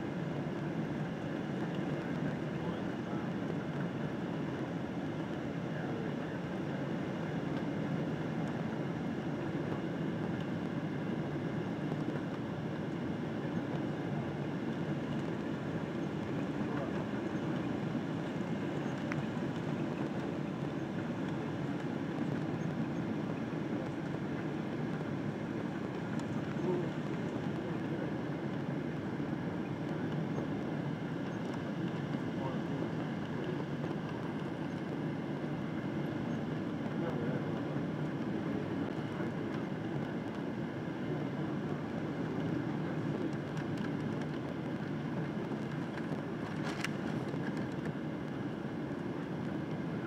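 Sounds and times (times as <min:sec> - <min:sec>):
airplane cabin engine rumble: 0:00.0 - 0:50.0.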